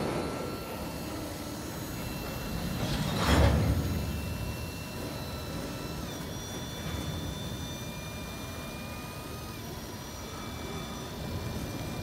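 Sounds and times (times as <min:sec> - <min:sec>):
high squeals from train wheels: 0:00.0 - 0:12.0.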